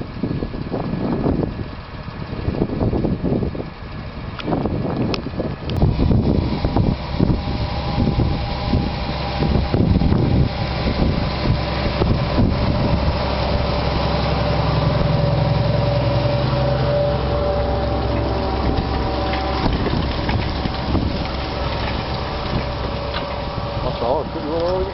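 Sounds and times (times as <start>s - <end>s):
diesel tractor engine running: 0.0s - 24.9s
wind noise on microphone: 0.0s - 24.9s.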